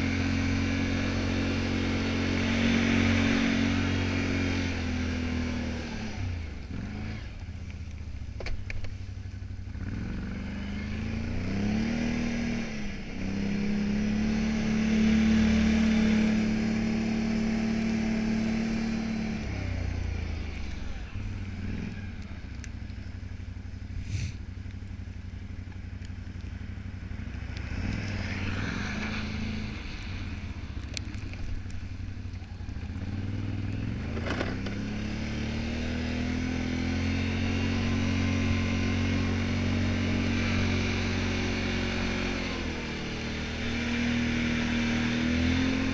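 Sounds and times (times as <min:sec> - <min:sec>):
atv engine revving: 0:00.0 - 0:07.5, 0:08.4 - 0:45.9.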